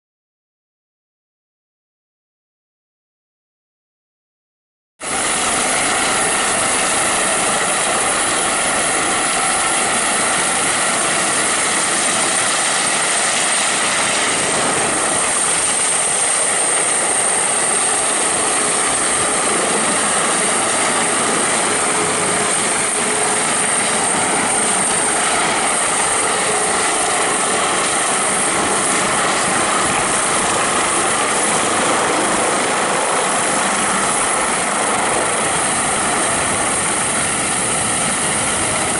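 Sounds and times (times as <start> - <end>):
helicopter rotor and turbine whine: 5.0 - 38.9.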